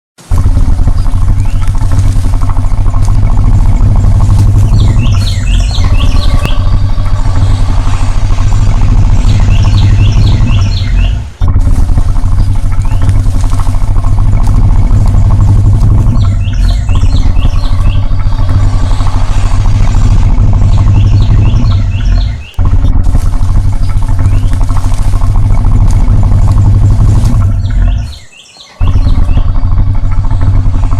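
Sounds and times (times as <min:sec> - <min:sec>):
birds chirping: 0:00.2 - 0:30.9
crocodile growling: 0:00.3 - 0:30.9.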